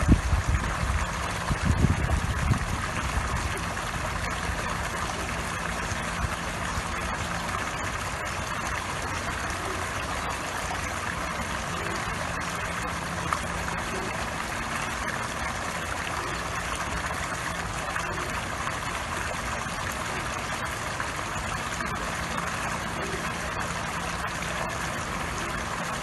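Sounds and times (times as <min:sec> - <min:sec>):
fountain water splashing: 0:00.0 - 0:26.0
steady low hum: 0:00.0 - 0:26.0.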